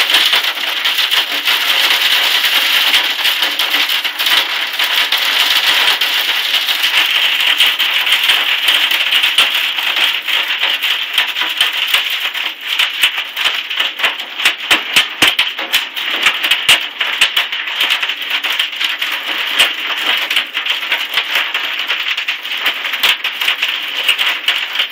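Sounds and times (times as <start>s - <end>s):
hailstones pelting hard surfaces: 0.0s - 24.9s.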